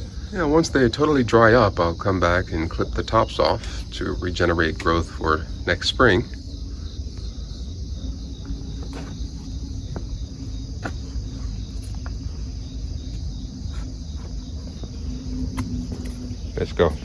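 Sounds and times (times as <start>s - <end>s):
crickets chirring: 0.0s - 17.0s
low rumble: 0.0s - 17.0s.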